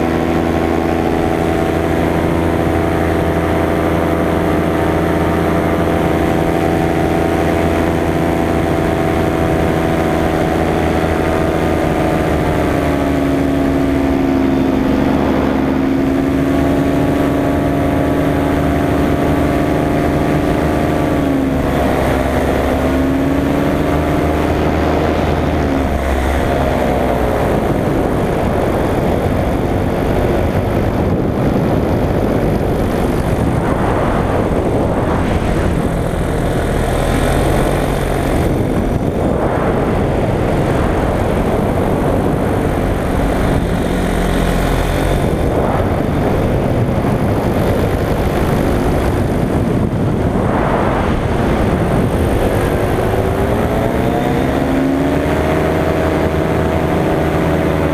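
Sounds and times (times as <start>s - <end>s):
paramotor engine and propeller: 0.0s - 57.9s
wind noise: 0.0s - 57.9s.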